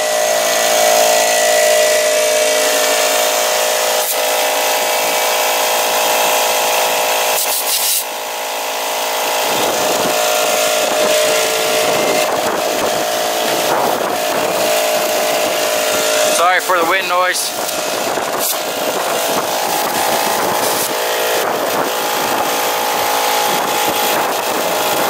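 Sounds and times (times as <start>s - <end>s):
air compressor humming: 0.0s - 25.0s.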